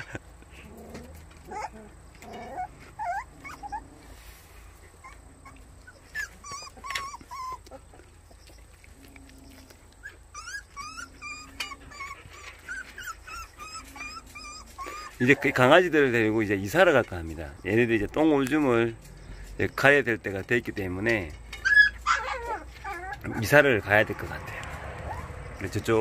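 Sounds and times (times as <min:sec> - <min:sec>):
puppies whimpering: 0:00.0 - 0:26.0.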